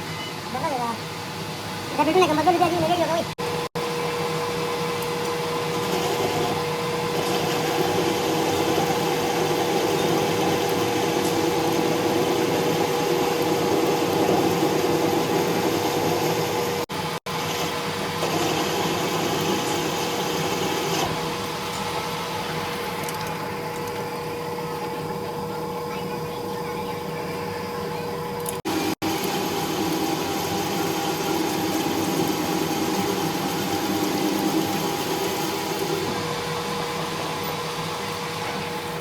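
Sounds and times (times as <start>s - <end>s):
workshop machine grinding hum: 0.0s - 39.0s.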